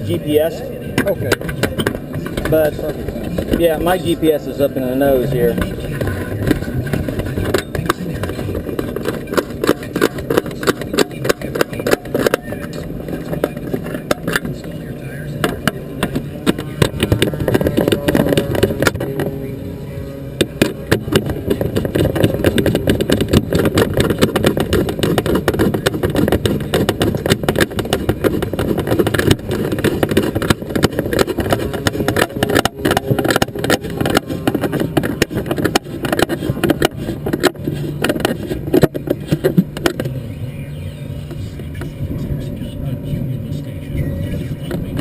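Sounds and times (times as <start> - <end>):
aircraft motor and propeller: 0.0 - 45.0.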